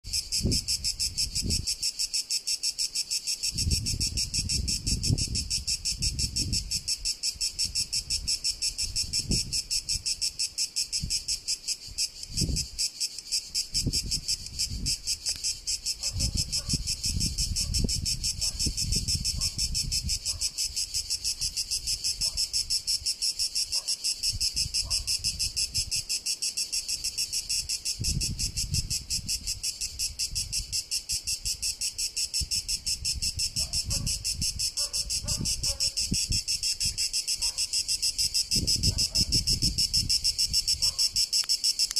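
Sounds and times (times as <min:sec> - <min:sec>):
cicadas buzzing: 0:00.0 - 0:41.9.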